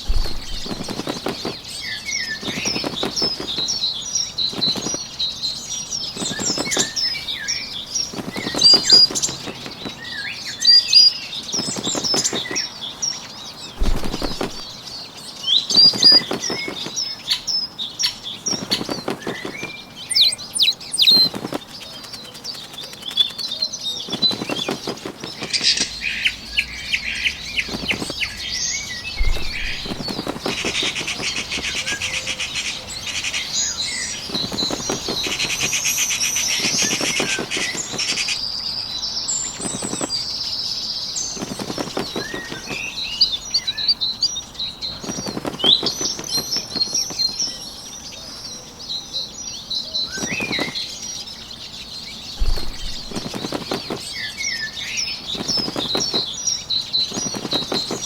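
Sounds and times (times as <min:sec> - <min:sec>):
bird wings flapping: 0:00.0 - 0:12.9, 0:13.5 - 0:15.0, 0:15.7 - 0:38.5, 0:39.3 - 0:44.1, 0:44.8 - 0:47.7, 0:50.0 - 0:51.0, 0:52.2 - 0:58.0
high chirping birdsong: 0:00.0 - 0:58.0.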